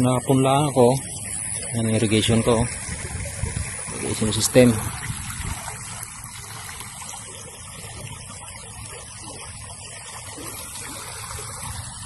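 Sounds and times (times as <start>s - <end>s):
water rushing along a channel: 0.0s - 12.0s.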